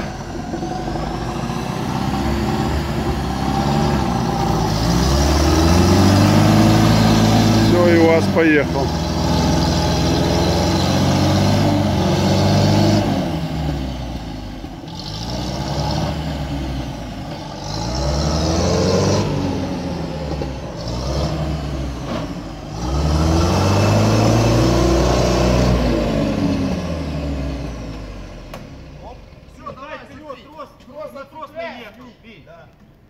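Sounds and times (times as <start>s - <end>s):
engine revving hard: 0.0s - 14.2s, 14.9s - 27.9s.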